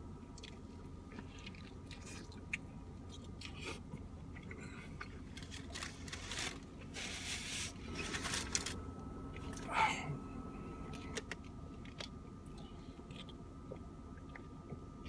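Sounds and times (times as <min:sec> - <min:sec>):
low steady hum: 0:00.0 - 0:15.0
person chewing a sandwich: 0:00.2 - 0:14.9.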